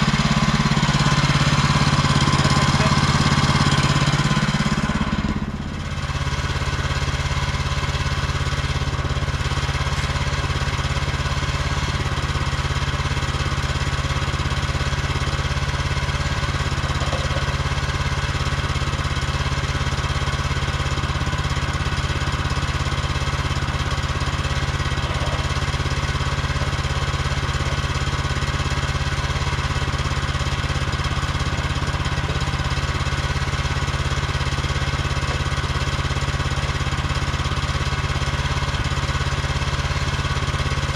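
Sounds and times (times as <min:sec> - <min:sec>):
small gas engine idling: 0:00.0 - 0:40.9.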